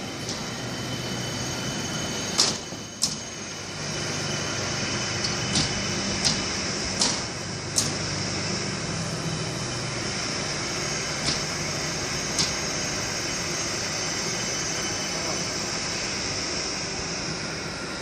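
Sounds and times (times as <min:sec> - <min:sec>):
train equipment whirring hiss: 0:00.0 - 0:18.0.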